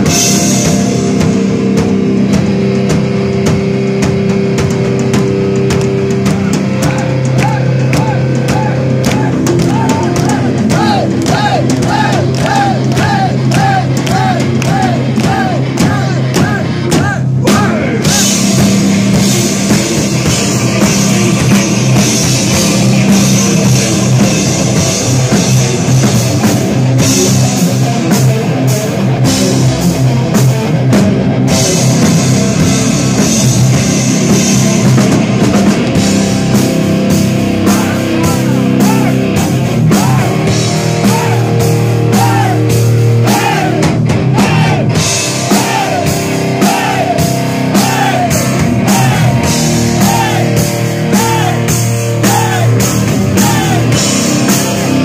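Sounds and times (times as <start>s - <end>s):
bending guitar melody: 0.0s - 55.0s
heavy metal band playing: 0.0s - 55.0s.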